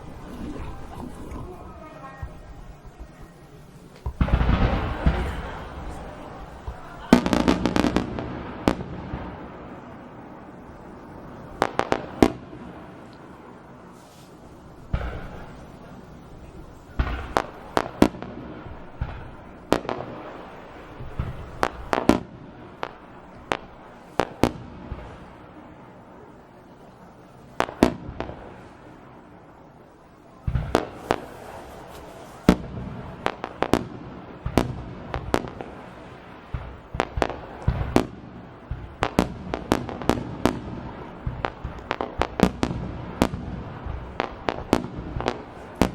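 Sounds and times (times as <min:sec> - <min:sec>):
fireworks bursting with echo: 0:00.0 - 0:45.9.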